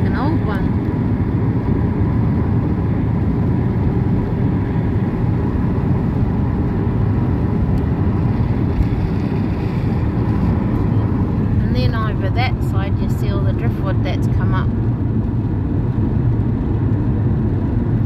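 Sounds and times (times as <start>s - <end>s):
car road noise from inside: 0.0s - 18.0s.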